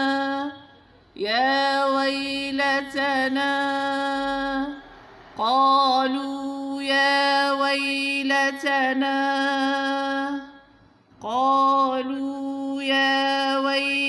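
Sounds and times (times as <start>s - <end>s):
woman chanting: 0.0s - 14.0s.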